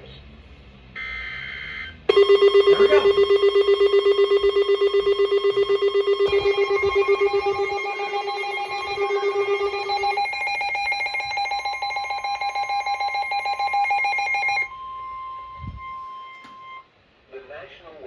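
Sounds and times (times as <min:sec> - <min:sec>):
electronic alarm beeping: 0:01.0 - 0:16.9
steady warning tone: 0:01.0 - 0:16.9.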